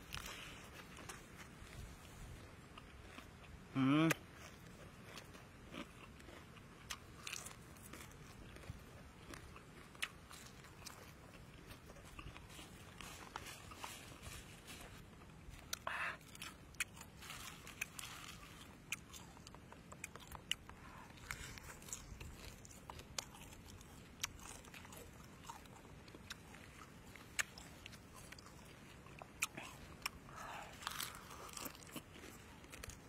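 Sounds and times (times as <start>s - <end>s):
crunchy chewing: 0.0s - 33.0s.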